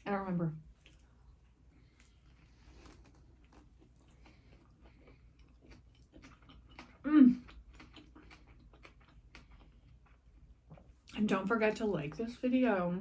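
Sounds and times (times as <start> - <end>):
close-up wet chewing: 0.7 - 11.2.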